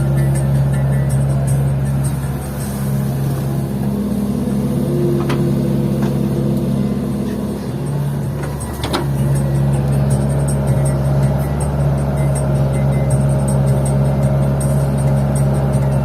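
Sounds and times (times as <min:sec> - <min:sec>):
diesel engines running: 0:00.0 - 0:16.0.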